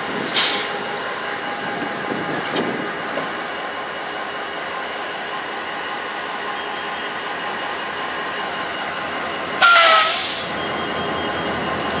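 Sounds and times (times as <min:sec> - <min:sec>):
diesel locomotives rolling by: 0:00.0 - 0:12.0.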